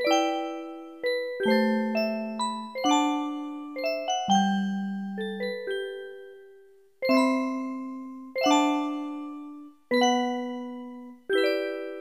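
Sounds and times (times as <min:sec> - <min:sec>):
bell-like chime music: 0:00.0 - 0:12.0.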